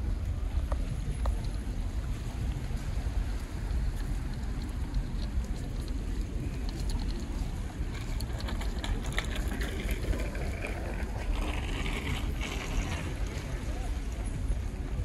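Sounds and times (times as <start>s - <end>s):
distant traffic: 0.0s - 15.0s
faint voices of passers-by: 0.0s - 15.0s.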